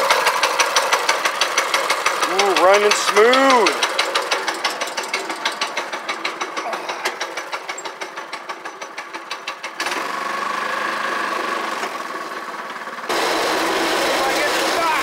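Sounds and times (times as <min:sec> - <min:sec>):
go-kart engine: 0:00.0 - 0:15.0.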